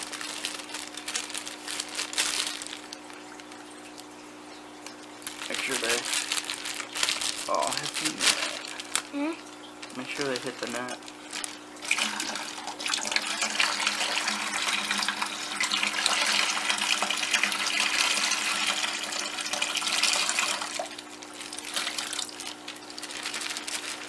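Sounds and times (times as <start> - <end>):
water trickling into bucket: 0.0 - 24.0.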